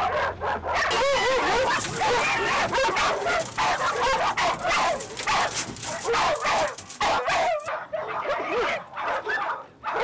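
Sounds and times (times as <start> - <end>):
dogs barking and yipping: 0.0 - 10.0.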